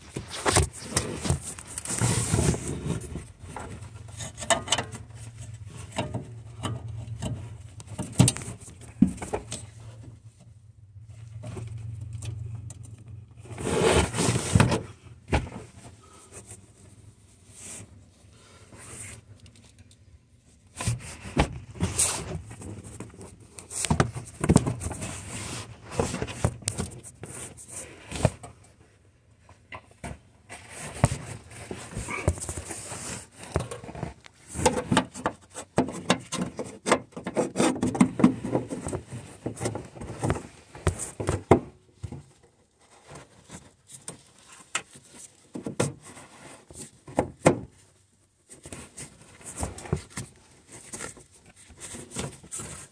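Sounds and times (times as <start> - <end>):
plastic scraping and rustling: 0.0 - 16.6, 20.6 - 52.9.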